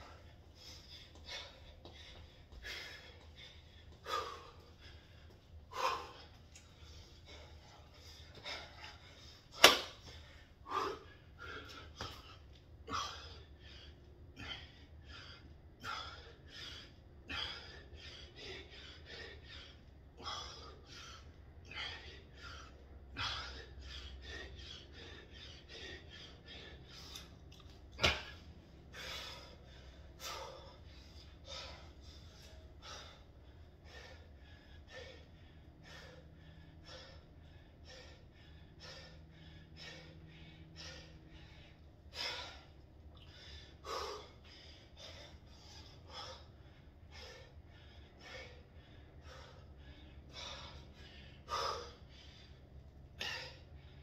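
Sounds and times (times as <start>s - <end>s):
man breathing heavily: 0.0s - 54.0s.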